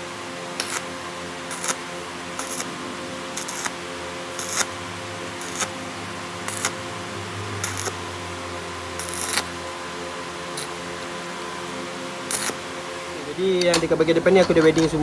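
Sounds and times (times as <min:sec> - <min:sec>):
arc welder crackling: 0:00.0 - 0:15.0
steady electrical hum: 0:00.0 - 0:15.0.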